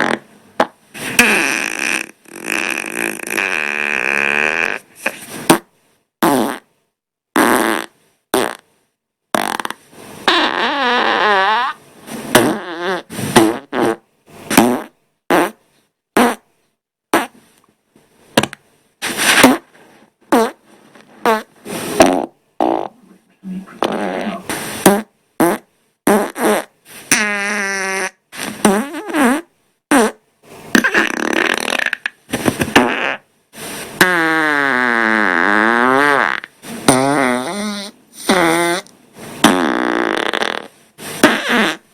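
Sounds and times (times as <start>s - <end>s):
human farts: 0.0s - 6.7s, 7.3s - 8.7s, 9.3s - 16.5s, 17.1s - 17.4s, 19.0s - 33.3s, 34.0s - 41.9s.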